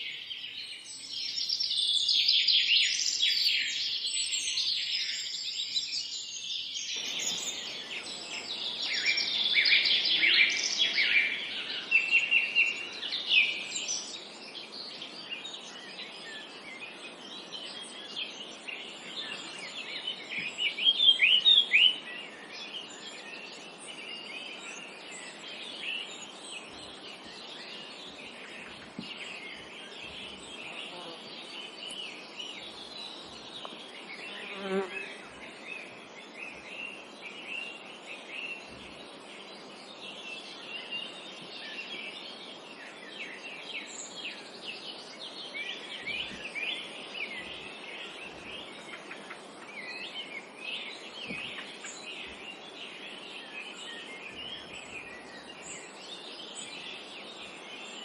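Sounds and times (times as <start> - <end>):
soft outdoor hiss: 0.0 - 58.0
songbirds chirping and trilling: 0.0 - 58.0.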